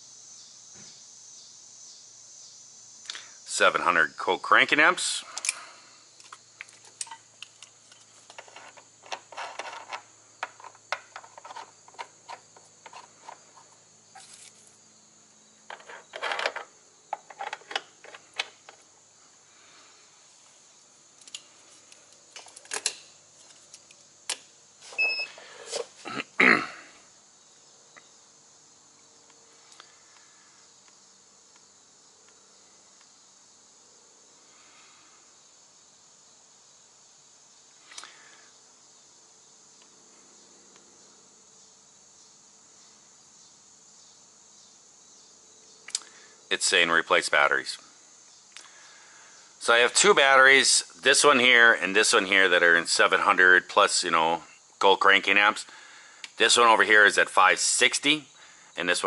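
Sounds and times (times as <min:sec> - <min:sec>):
faint high hiss: 0:00.0 - 0:59.0.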